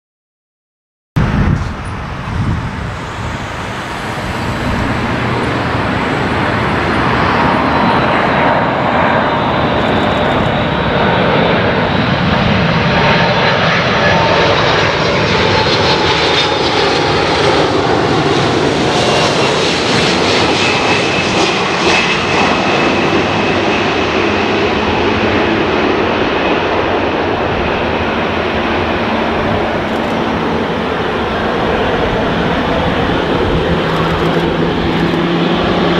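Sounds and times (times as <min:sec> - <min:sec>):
jet airliner roar: 0:01.2 - 0:35.9
jet engine whine falling in pitch: 0:01.2 - 0:35.9.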